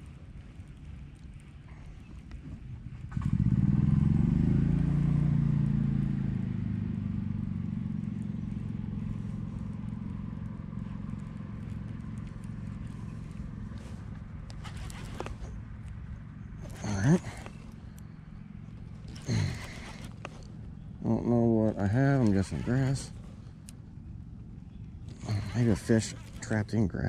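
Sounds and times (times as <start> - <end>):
engine starting and running: 3.0 - 23.9, 24.7 - 26.7.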